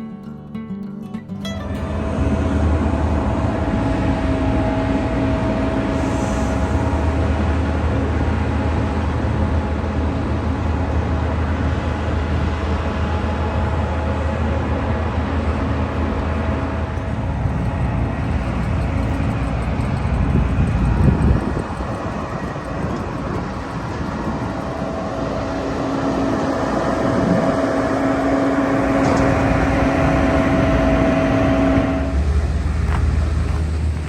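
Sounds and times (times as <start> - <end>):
heavy machinery engine running: 1.6 - 34.0.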